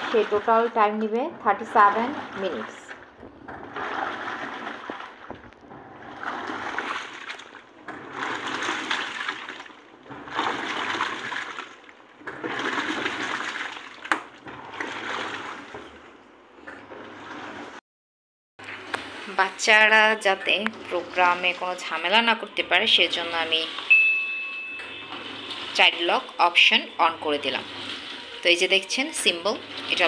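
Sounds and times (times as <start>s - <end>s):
washing machine water sloshing: 0.0s - 17.8s, 18.7s - 30.0s.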